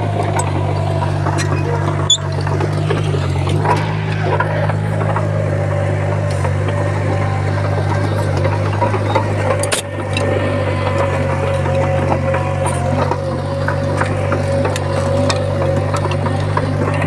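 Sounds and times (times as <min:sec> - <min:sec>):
faint steady whine: 0:00.0 - 0:17.0
heavy diesel engine running: 0:00.0 - 0:17.0.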